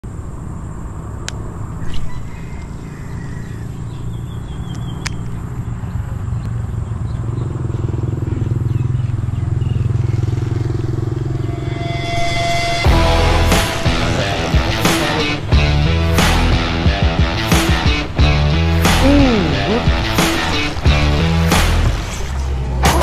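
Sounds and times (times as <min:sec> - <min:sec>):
motorcycle engine rumbling: 0:02.7 - 0:22.7.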